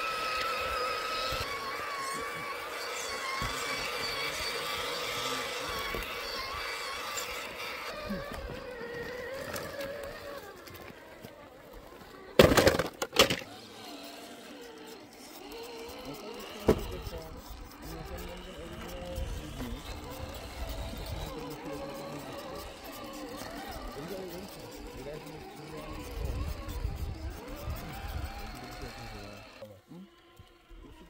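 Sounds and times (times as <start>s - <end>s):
toy truck motor whine: 0.0s - 31.0s.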